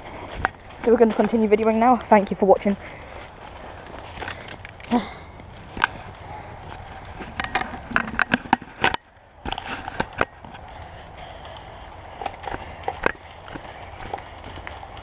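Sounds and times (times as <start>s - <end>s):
rustling through dry leaves: 0.0s - 15.0s.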